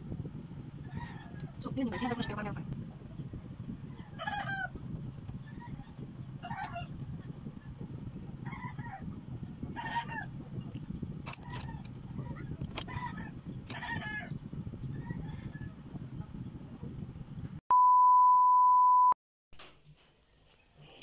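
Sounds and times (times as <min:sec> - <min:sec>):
steady low rumble: 0:00.0 - 0:17.6.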